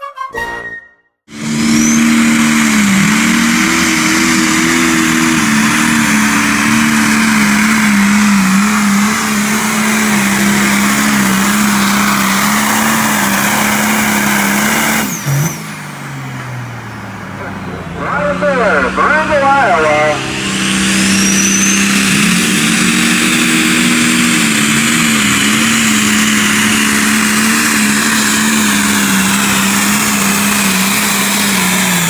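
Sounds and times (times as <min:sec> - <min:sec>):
diesel engine at full throttle: 0:01.3 - 0:32.0.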